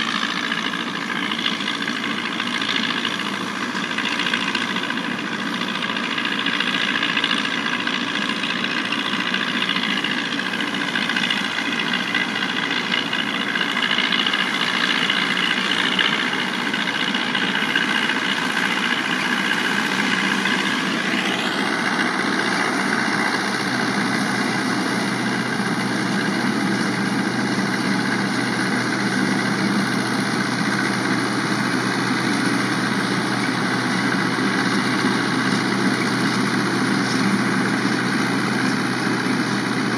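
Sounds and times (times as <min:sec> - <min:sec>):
straw chopper blowing straw: 0:00.0 - 0:39.9
tractor diesel engine running: 0:00.0 - 0:39.9.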